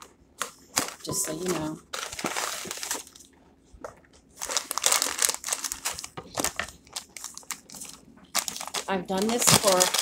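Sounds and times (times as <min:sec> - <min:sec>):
packaging crinkling and crackling: 0:00.0 - 0:10.0.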